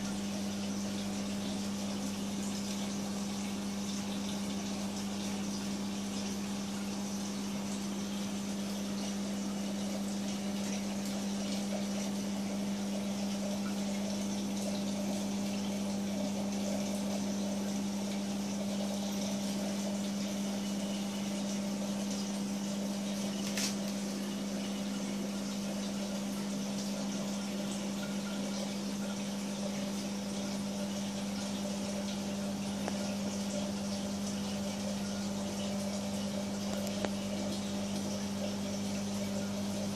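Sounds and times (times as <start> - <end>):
aquarium pump hum: 0.0 - 39.9
water circulating: 0.0 - 39.9.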